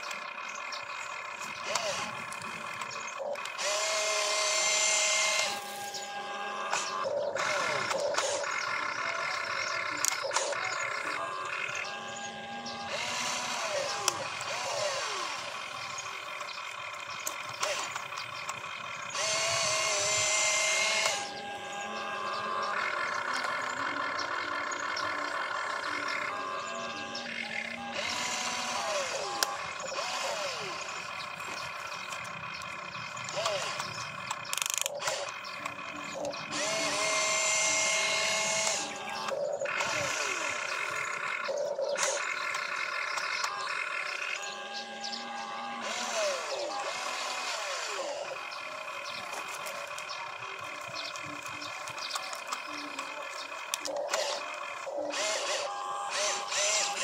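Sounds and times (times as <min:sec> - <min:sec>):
toy excavator motors whining: 0:00.0 - 0:57.0.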